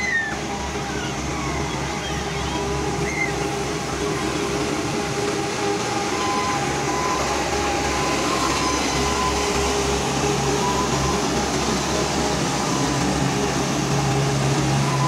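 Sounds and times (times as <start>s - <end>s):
high steady tone: 0.0s - 15.0s
road roller diesel engine: 0.0s - 15.0s.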